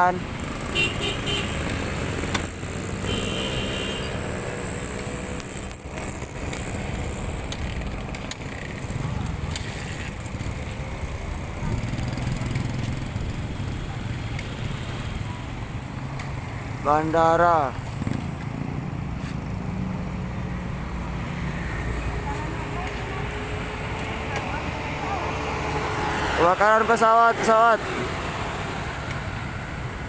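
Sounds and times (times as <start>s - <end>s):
outdoor noise: 0.0s - 30.0s
vehicle engines rumbling: 0.0s - 30.0s.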